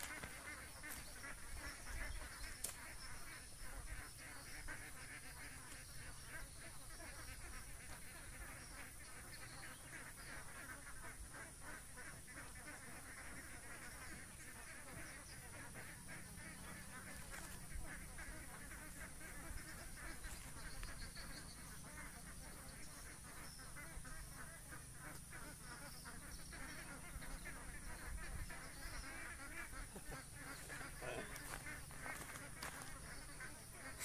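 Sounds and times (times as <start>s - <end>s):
waterfowl calling: 0.0s - 34.0s.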